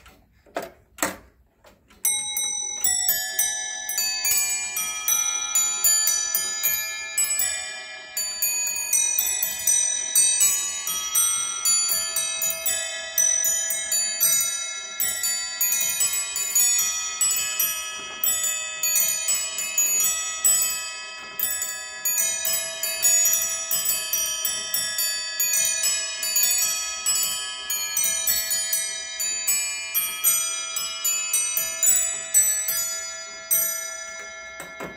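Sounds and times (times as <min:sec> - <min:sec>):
carillon clock bells melody: 0:01.9 - 0:34.9.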